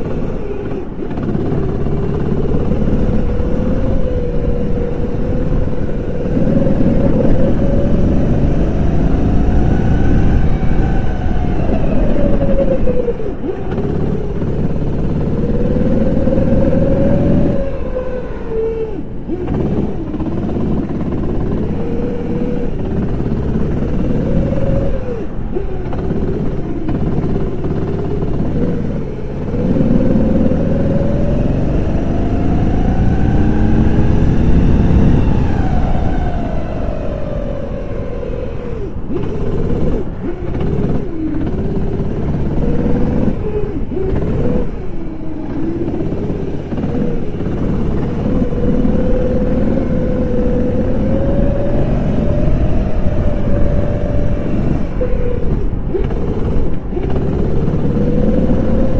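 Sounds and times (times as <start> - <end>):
go-kart engine: 0.0 - 58.9.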